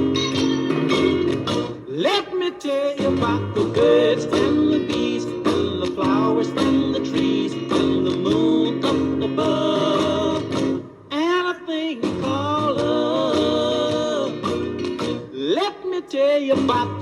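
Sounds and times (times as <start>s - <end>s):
pop band playing: 0.0s - 17.0s
man singing: 1.8s - 17.0s.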